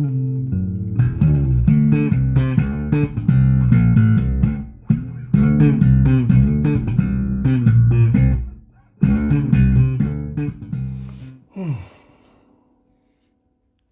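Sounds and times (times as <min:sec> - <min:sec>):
bass guitar plucked low notes: 0:00.0 - 0:11.4.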